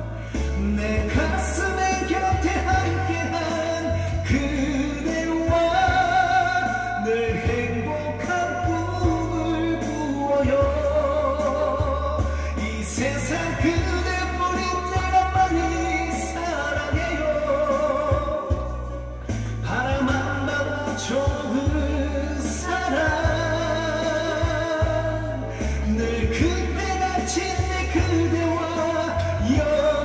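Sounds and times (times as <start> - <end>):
man singing into a microphone: 0.0 - 30.0
steady bass line: 0.0 - 30.0.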